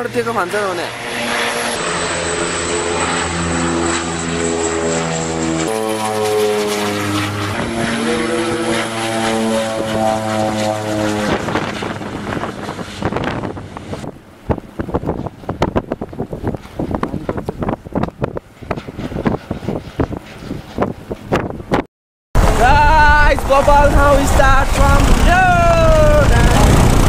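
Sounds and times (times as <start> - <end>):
propeller plane engines droning: 0.0 - 21.8, 22.4 - 27.0
wind buffeting microphone: 5.2 - 27.0.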